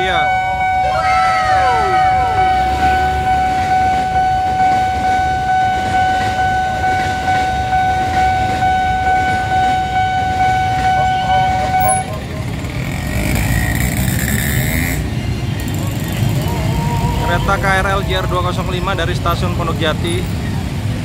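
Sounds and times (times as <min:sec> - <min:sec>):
continuous warning tone: 0:00.0 - 0:21.0
electric train rumble: 0:00.0 - 0:21.0.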